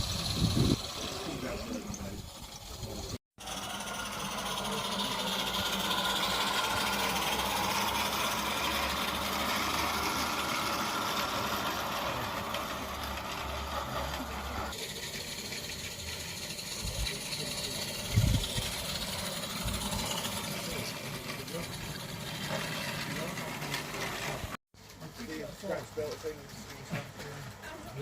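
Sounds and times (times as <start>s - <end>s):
small steam locomotive hissing: 0.0s - 28.0s.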